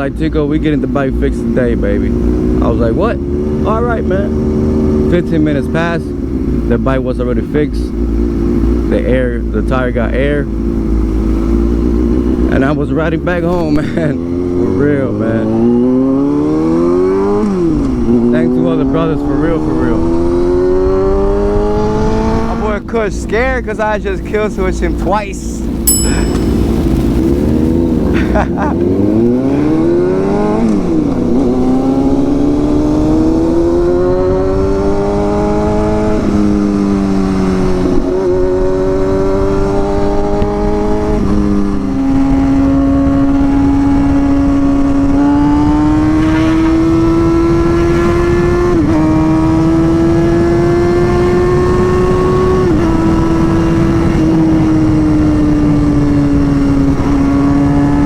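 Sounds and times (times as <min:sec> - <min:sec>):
motorcycle engine revving: 0:01.4 - 0:07.0, 0:10.4 - 0:22.8, 0:25.6 - 0:58.0.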